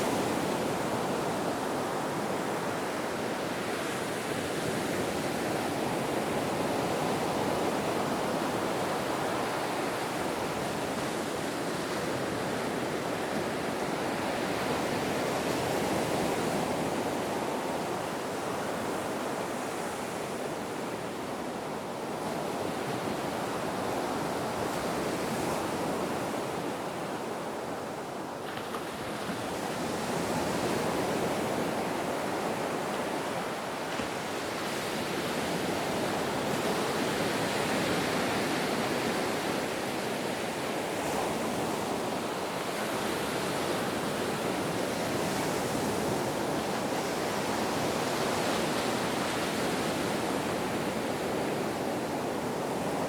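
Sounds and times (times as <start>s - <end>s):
ocean surf washing: 0.0s - 53.0s.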